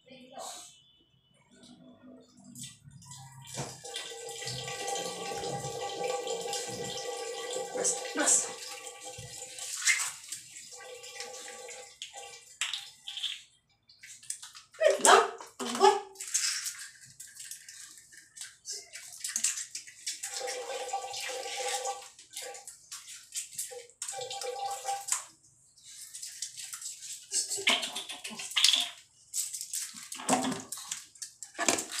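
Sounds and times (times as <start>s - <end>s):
water splashing in a shower: 1.9s - 32.0s.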